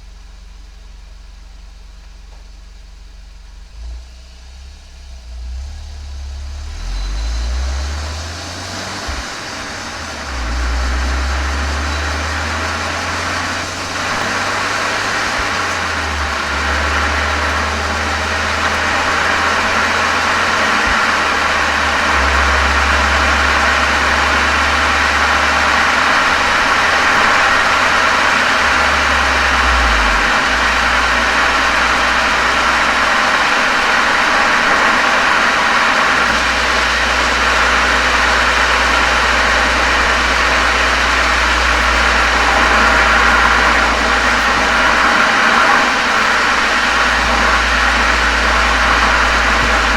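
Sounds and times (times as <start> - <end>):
car exhaust droning: 0.0 - 49.9.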